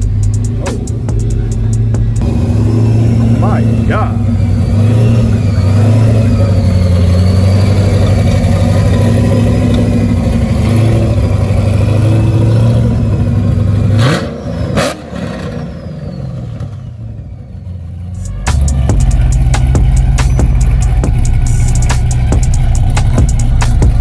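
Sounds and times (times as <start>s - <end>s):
car exhaust rumbling: 0.0s - 15.3s, 17.8s - 24.0s
car engine revving: 0.0s - 24.0s.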